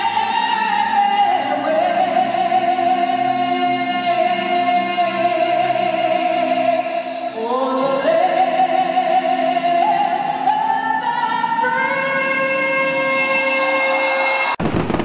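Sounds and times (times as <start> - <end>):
woman singing: 0.0 - 14.6.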